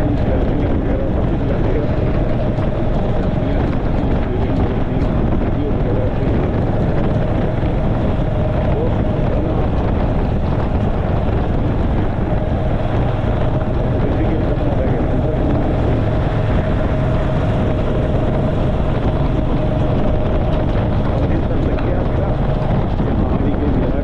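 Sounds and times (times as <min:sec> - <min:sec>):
motorcycle engine drone: 0:00.0 - 0:24.0
wind rushing over microphone: 0:00.0 - 0:24.0.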